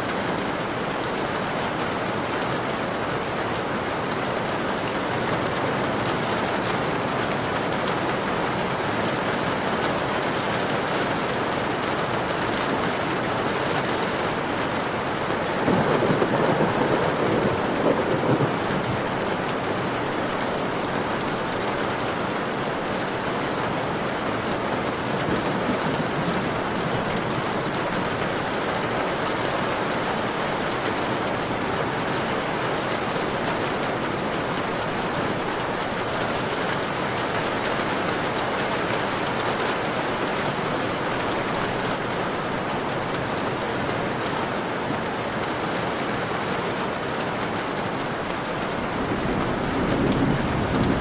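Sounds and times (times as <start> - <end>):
rain drops striking a window: 0.0 - 51.0.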